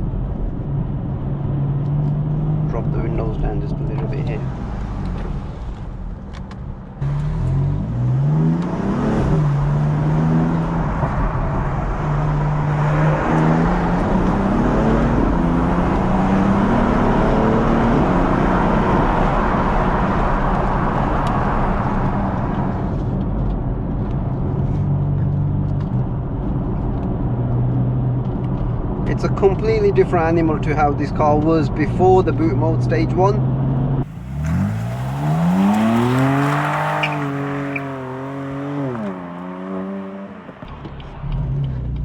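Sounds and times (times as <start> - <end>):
car engine revving: 0.0 - 42.0
road and wind noise: 0.0 - 42.0.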